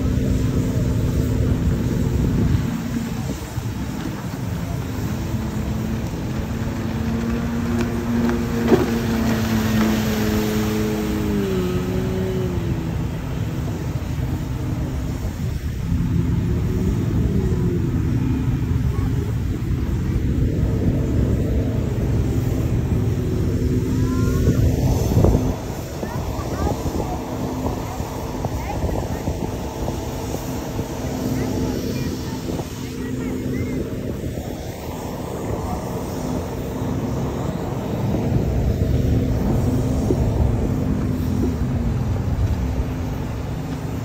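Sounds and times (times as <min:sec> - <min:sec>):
boat engine droning: 0:00.0 - 0:44.0
water noise: 0:00.0 - 0:44.0
wind noise: 0:00.0 - 0:44.0.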